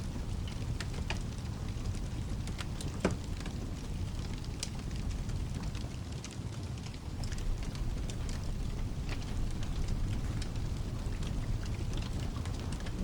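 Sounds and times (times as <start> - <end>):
fireplace crackling and popping: 0.0 - 13.0
rain rumble and hiss: 0.0 - 13.0.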